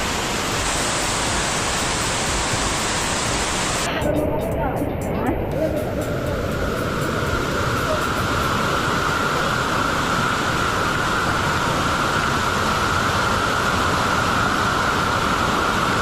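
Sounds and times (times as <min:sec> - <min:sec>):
waterfall rushing into a pool: 0:00.0 - 0:04.2, 0:05.7 - 0:16.0.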